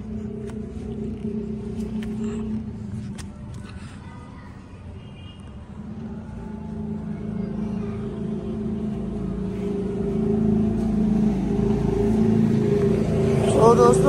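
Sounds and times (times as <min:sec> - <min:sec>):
machine humming: 0:00.0 - 0:03.2, 0:05.8 - 0:14.0.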